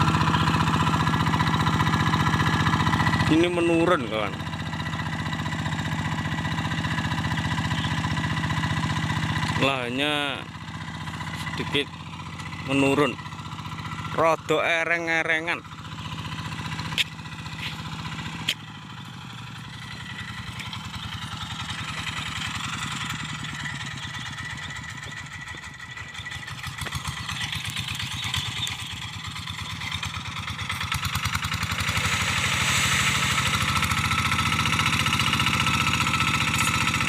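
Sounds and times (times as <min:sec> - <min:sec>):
hand tractor diesel engine running: 0:00.0 - 0:37.0.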